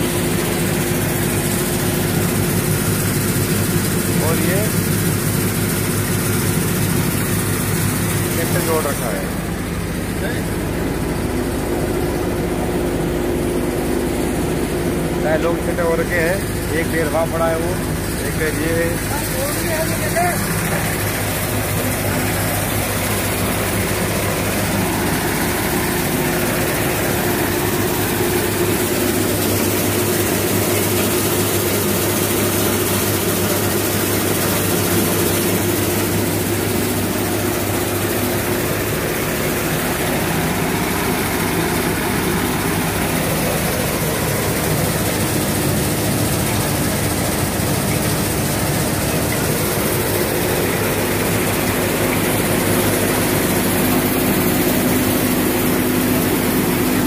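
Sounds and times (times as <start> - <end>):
threshing machine drone: 0.0 - 57.0.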